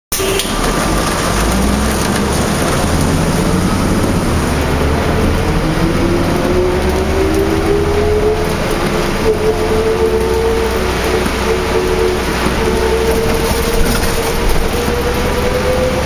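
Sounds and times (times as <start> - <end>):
bus engine rumble: 0.1 - 16.0
road noise: 0.1 - 16.0
drivetrain whine rising in pitch: 0.6 - 16.0.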